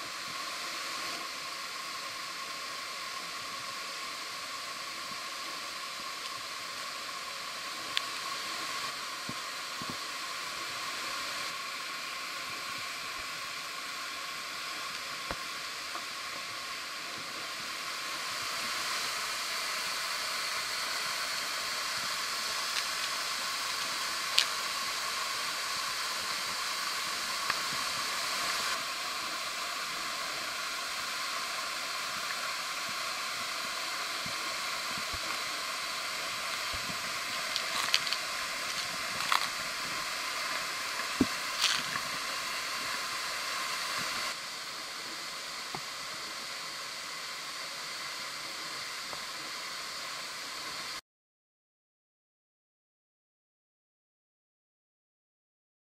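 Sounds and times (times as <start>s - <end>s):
waterfall pouring into pool: 0.0s - 51.0s.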